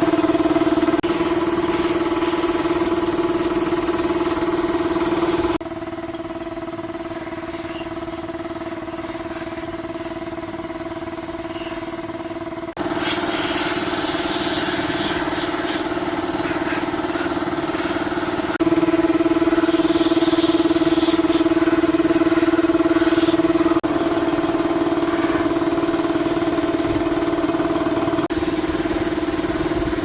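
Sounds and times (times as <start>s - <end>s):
small motor running: 0.0s - 30.0s.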